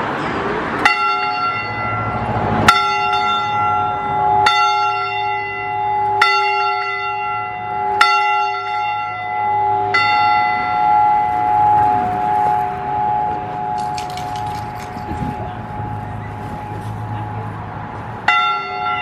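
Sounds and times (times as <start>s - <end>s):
church bell tolling: 0.8s - 17.6s, 18.2s - 19.0s.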